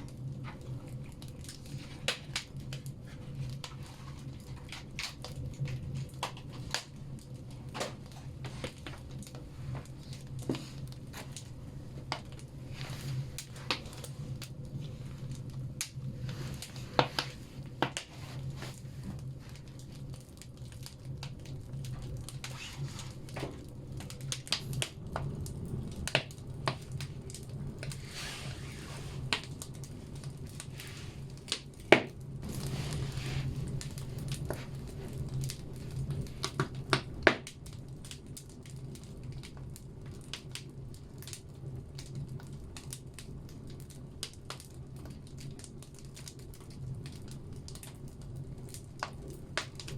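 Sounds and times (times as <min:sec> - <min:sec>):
fire hissing: 0:00.0 - 0:49.9
wood fire crackling and popping: 0:00.0 - 0:49.9.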